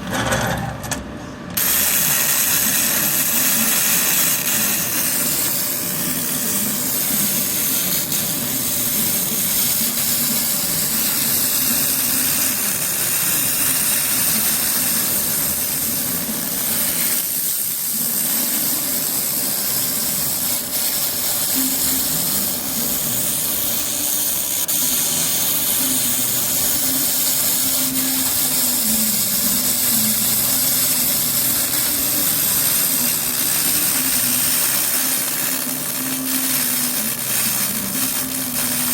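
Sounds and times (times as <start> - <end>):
low machine hum: 0.0 - 38.9
laser cleaning hiss: 1.6 - 38.9.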